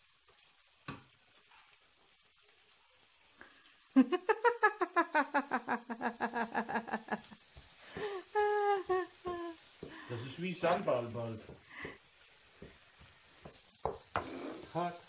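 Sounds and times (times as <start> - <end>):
onions and bacon frying in a pan: 0.0 - 15.0.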